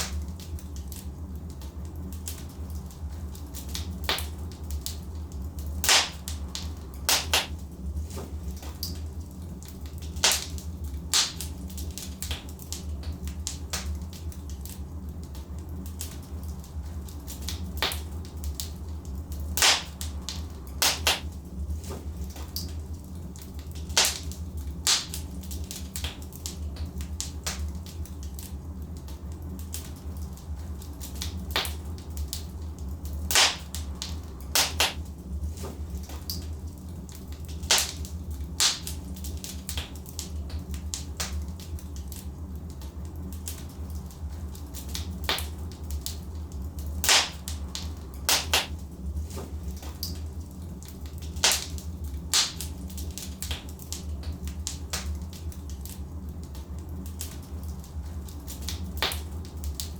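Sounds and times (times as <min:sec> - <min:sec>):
sharp fire pops: 0:00.0 - 0:09.1, 0:09.7 - 0:14.8, 0:15.4 - 0:22.8, 0:23.4 - 0:32.6, 0:33.2 - 0:36.5, 0:37.2 - 0:42.3, 0:43.4 - 0:46.2, 0:47.0 - 0:50.3, 0:51.1 - 0:56.0, 0:58.5 - 0:59.9
logs crackling in a fireplace: 0:00.0 - 0:59.9.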